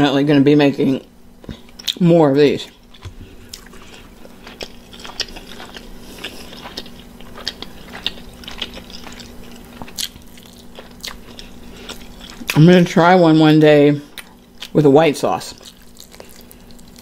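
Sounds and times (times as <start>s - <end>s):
biting and chewing chicken wing: 1.5s - 17.0s.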